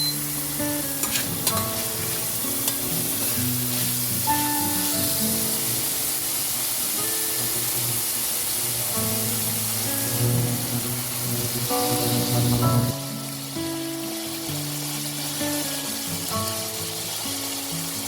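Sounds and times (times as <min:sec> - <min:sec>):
background music with held notes: 0:00.0 - 0:18.0
food sizzling in hot oil: 0:00.0 - 0:18.0.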